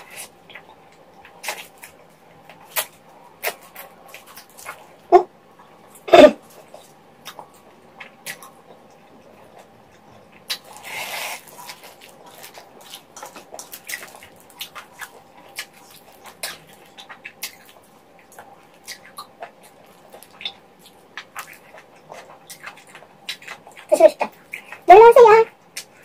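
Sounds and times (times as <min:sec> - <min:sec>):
chewing chewy food: 0:00.0 - 0:26.0.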